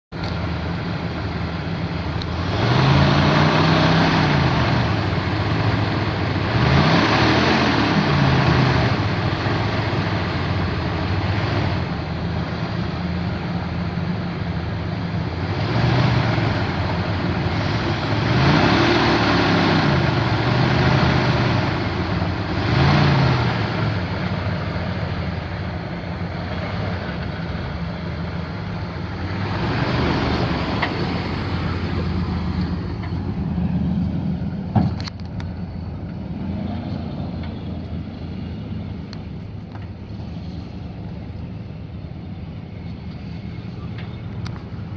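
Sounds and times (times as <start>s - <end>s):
truck engine revving: 0.1s - 44.9s.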